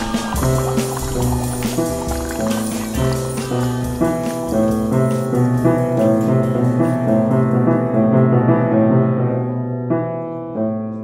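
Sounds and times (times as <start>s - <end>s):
upright piano playing: 0.0s - 11.0s.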